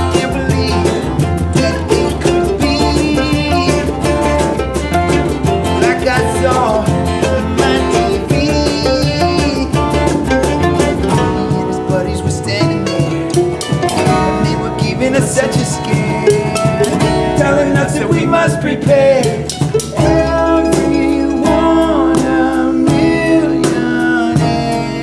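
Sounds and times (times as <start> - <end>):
mandolin: 0.0 - 25.0
strummed acoustic guitar: 0.0 - 25.0
upright bass: 0.0 - 25.0.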